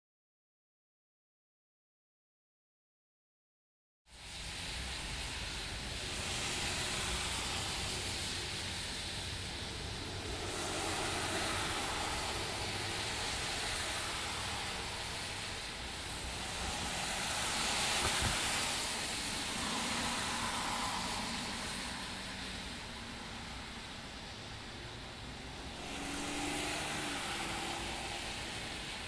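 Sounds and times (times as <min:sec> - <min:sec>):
cars passing on wet street: 0:04.1 - 0:29.0
rain hiss: 0:04.1 - 0:29.0.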